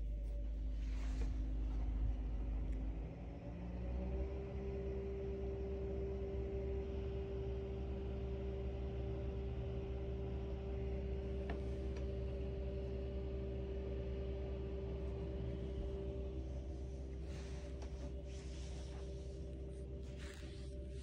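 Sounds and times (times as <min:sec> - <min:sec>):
low mechanical rumble and hum: 0:00.0 - 0:21.0.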